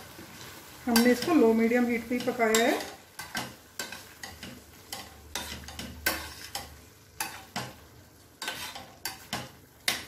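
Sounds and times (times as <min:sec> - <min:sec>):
metal spoon stirring in steel pan: 0:00.3 - 0:10.0.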